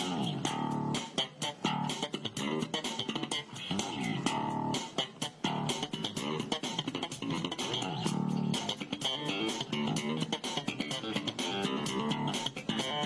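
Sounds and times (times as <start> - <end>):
electric and bass guitar music: 0.0 - 13.0.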